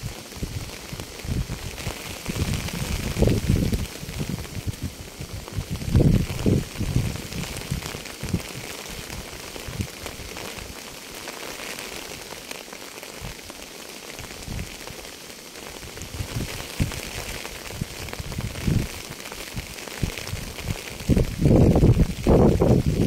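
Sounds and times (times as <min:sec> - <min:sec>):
low thuds of raindrops: 0:00.0 - 0:23.0
rain hiss: 0:00.0 - 0:23.0.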